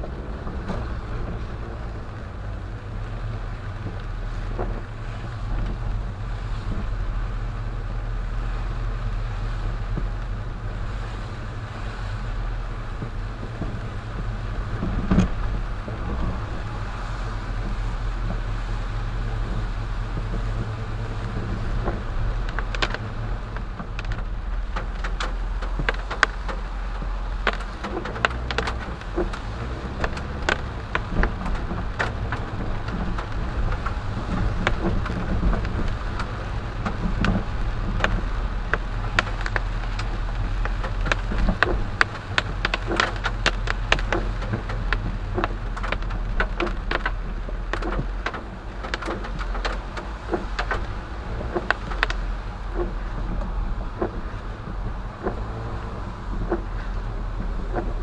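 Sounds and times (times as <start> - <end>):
engine and tyres rumbling: 0.0 - 58.0
raindrops ticking on windshield: 0.0 - 58.0.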